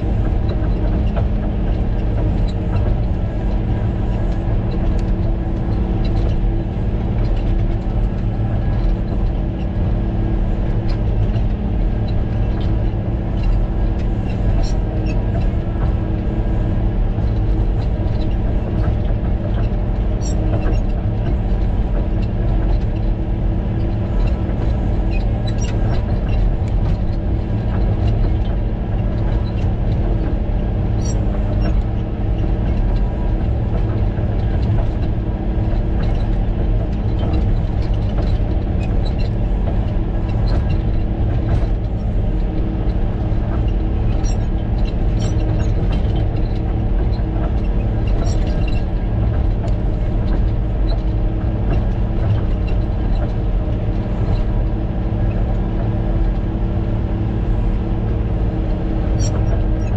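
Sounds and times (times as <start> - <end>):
diesel engine running: 0.0 - 59.9
faint clicks and rattles: 0.0 - 59.9.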